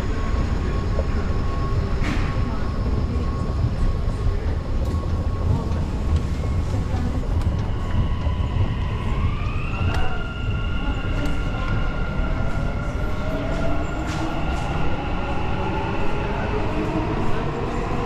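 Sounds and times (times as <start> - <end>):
metro train rumble and whine: 0.0 - 18.0.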